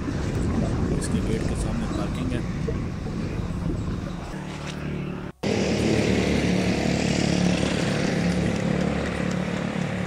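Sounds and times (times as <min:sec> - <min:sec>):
engine drone: 0:00.0 - 0:10.0.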